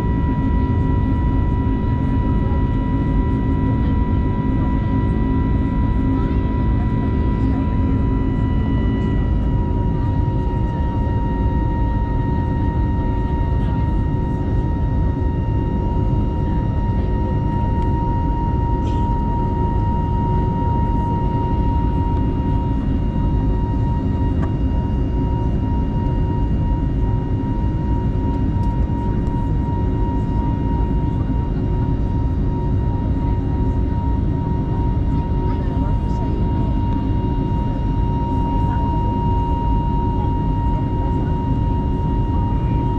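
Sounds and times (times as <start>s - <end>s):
deep engine rumble: 0.0s - 42.9s.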